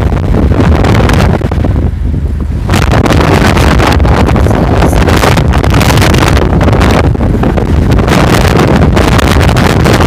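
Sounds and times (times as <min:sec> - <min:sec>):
off-road vehicle rumble: 0:00.0 - 0:10.0
wind buffeting on microphone: 0:00.0 - 0:10.0.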